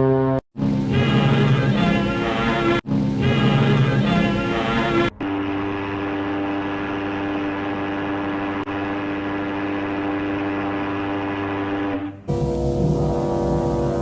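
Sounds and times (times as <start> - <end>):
ship's horn blast: 0.0 - 0.4, 2.9 - 14.0.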